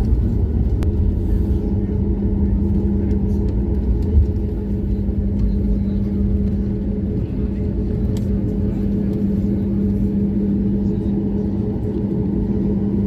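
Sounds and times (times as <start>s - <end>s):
constant hum: 0.0s - 13.0s
engine and airflow rumble: 0.0s - 13.0s.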